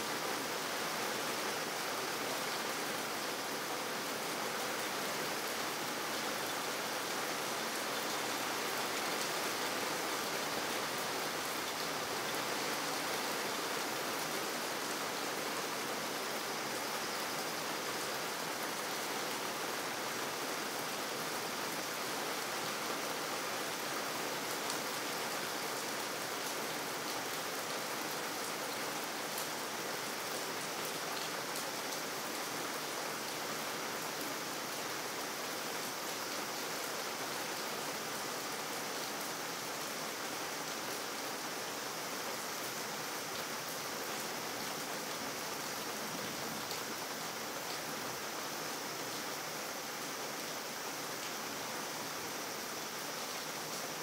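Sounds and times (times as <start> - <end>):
rain on pavement: 0.0 - 54.0.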